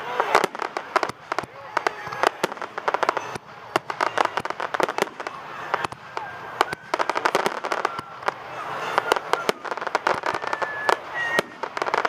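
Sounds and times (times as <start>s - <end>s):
faint fireworks whistles: 0.0s - 12.0s
fireworks bangs and crackles: 0.0s - 12.0s.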